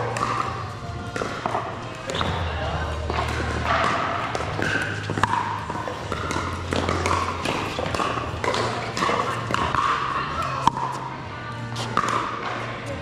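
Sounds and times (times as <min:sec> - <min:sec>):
paddles hitting plastic ball: 0:00.0 - 0:02.4, 0:03.0 - 0:11.0, 0:11.9 - 0:12.8.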